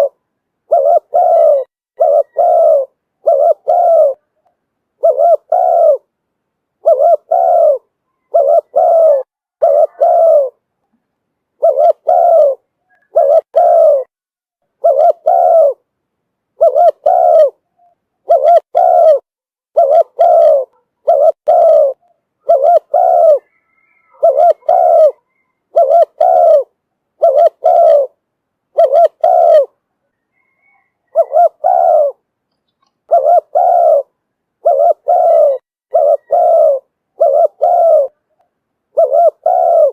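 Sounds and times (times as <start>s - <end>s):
dove cooing: 0.0s - 4.4s, 5.0s - 6.1s, 6.8s - 10.6s, 11.6s - 14.1s, 14.8s - 15.9s, 16.6s - 32.2s, 32.8s - 39.9s.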